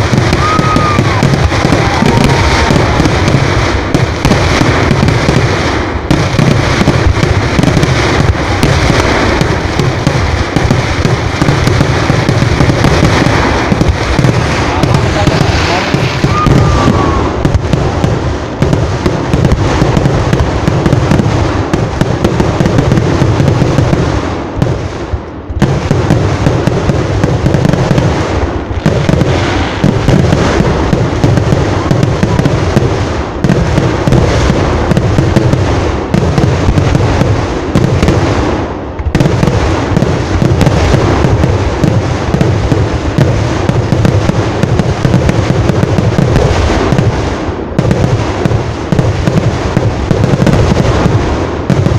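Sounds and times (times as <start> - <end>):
fireworks and firecrackers banging: 0.0 - 51.9.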